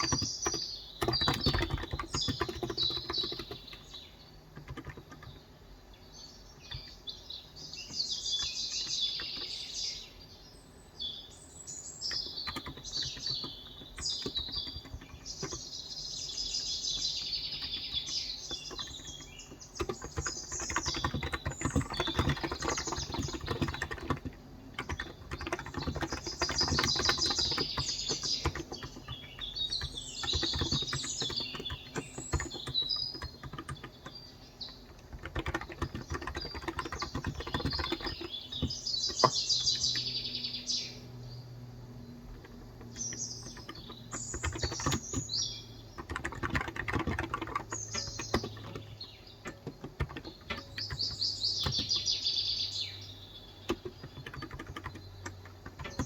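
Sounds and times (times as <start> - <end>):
soft keyboard typing: 0.0 - 5.5, 6.5 - 10.1, 11.8 - 40.3, 42.2 - 56.0
birds chirping and singing: 0.0 - 56.0.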